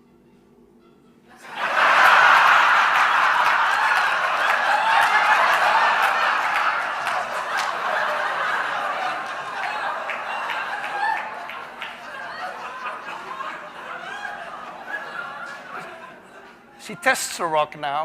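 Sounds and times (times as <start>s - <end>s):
audience laughing: 1.4s - 16.8s.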